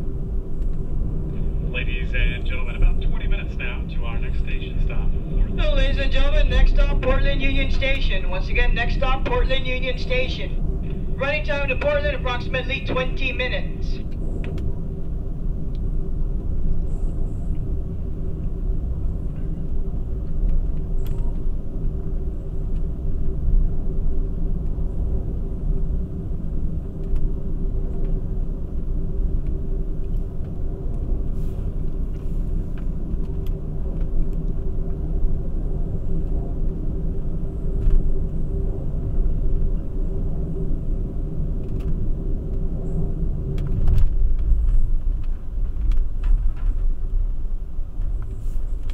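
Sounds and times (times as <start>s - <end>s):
constant hum: 0.0s - 48.9s
train wheels rumbling on rail: 0.0s - 48.9s.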